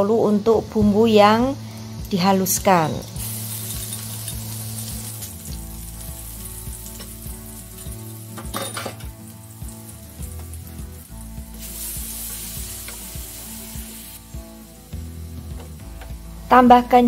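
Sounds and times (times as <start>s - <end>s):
paste sizzling in hot oil: 1.5s - 16.0s.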